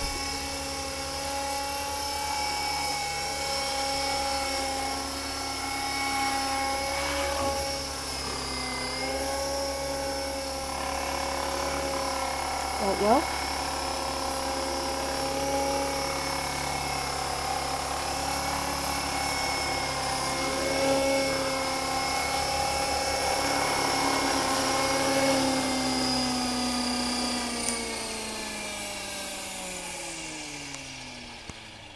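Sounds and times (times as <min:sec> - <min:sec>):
model helicopter rotor whine: 0:00.0 - 0:31.9.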